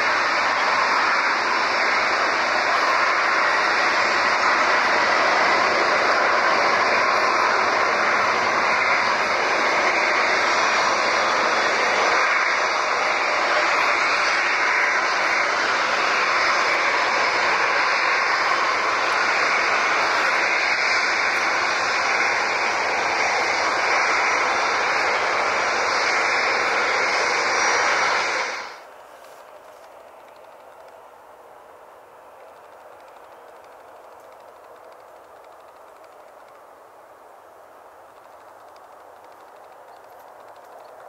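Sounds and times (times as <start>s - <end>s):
jet airliner engines: 0.0s - 41.0s.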